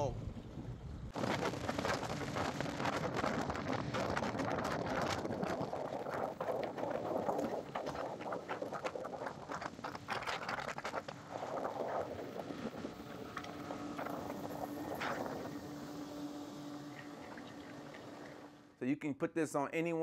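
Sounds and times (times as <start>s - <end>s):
outboard motor at full throttle: 0.0s - 18.8s
hull slapping water: 0.4s - 18.7s.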